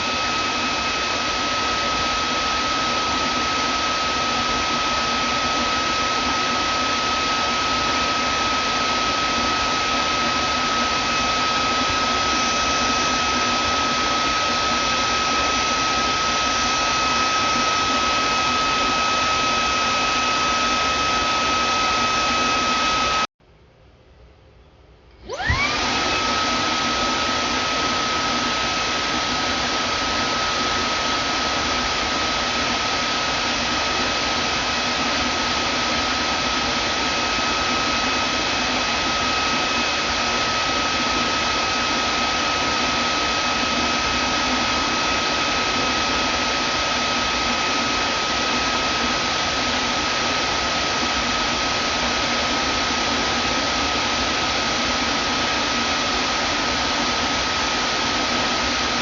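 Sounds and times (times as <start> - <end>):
vacuum cleaner running: 0.0 - 23.3, 25.1 - 59.0.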